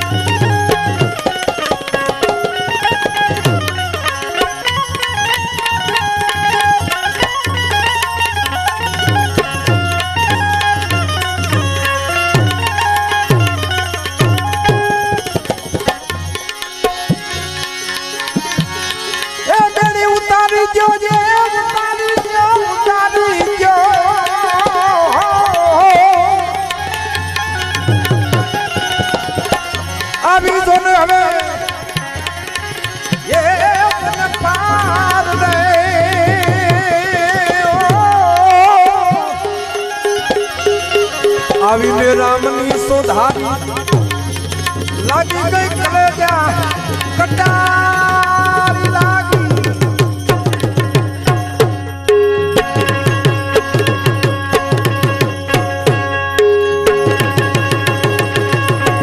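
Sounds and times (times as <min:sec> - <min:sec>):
ornamented melody line: 0:00.0 - 0:59.0
tabla playing: 0:00.0 - 0:59.0.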